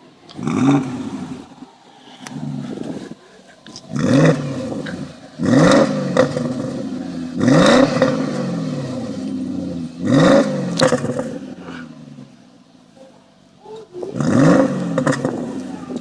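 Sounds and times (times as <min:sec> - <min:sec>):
car engine revving: 0:00.0 - 0:12.4, 0:14.2 - 0:16.0.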